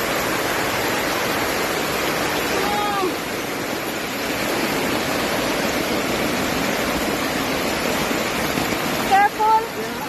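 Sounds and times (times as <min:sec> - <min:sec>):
rushing flood water: 0:00.0 - 0:10.0.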